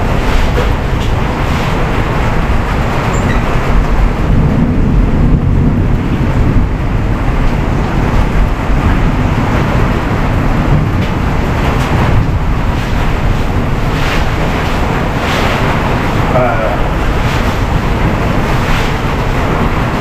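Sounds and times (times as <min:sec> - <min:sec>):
broom swishing water: 0:00.0 - 0:04.4, 0:07.6 - 0:20.0
heavy rain pouring: 0:00.0 - 0:20.0.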